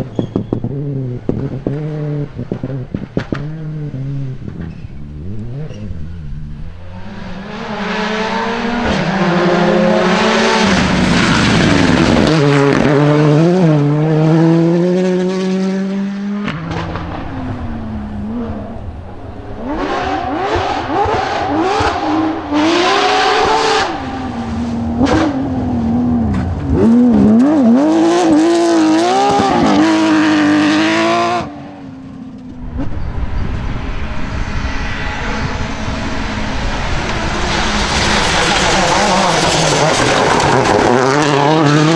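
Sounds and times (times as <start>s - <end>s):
rally car engines revving: 0.0s - 41.9s.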